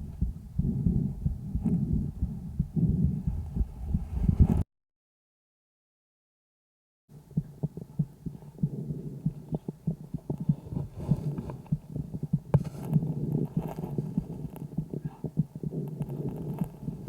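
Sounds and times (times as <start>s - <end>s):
calf breath sounds: 0.0s - 4.6s, 7.2s - 17.0s.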